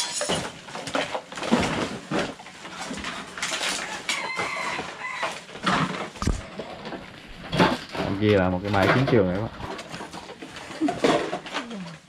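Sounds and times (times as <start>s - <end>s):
plastic sacks rustling: 0.0s - 12.0s
rustling and clatter of junk: 0.0s - 12.0s.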